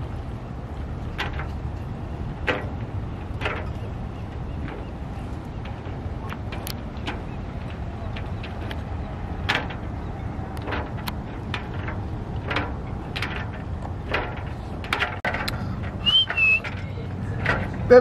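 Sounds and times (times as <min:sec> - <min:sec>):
steady low rumble: 0:00.0 - 0:18.0
knocks and clicks: 0:01.0 - 0:16.8.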